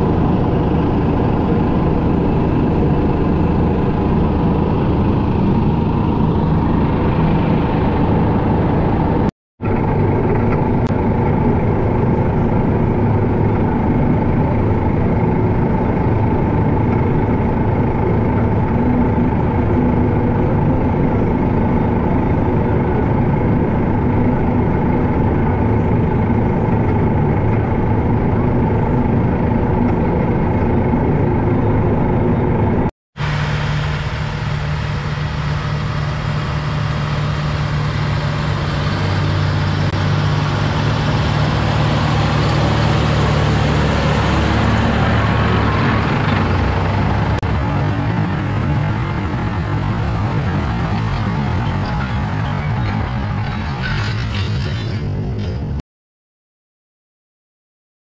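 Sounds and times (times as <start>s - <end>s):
tractor diesel engine: 0.0s - 55.8s
tractor tracks: 0.0s - 55.8s.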